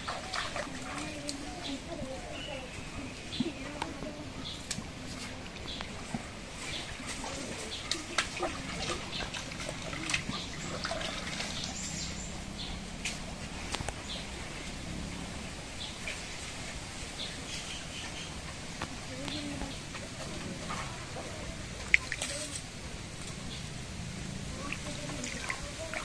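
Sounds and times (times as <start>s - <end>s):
small birds chirping: 0.0s - 15.0s, 17.1s - 26.0s
water splashes: 0.0s - 26.0s.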